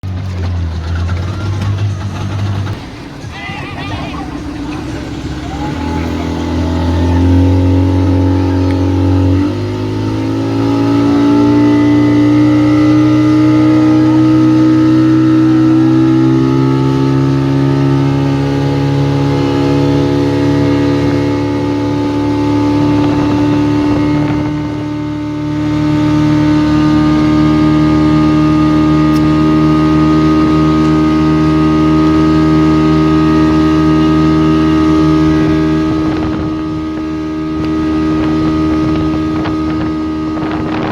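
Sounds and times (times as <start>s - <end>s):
motorboat engine running: 0.0s - 40.9s.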